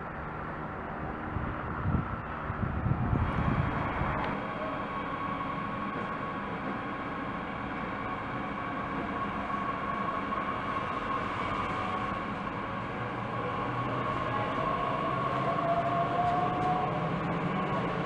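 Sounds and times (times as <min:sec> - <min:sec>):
electric train running whine: 0:00.0 - 0:18.0
rising whine: 0:00.0 - 0:18.0.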